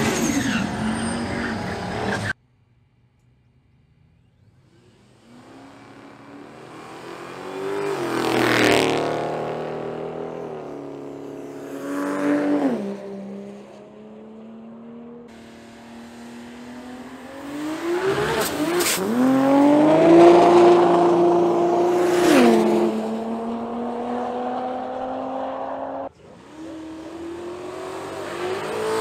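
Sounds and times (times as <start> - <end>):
car engine passing at speed: 4.5 - 29.0.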